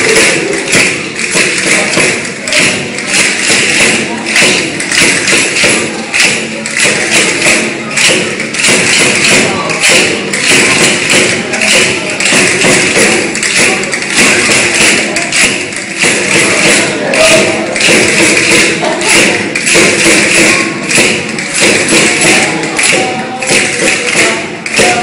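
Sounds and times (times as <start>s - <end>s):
handheld percussion beat: 0.0s - 25.0s.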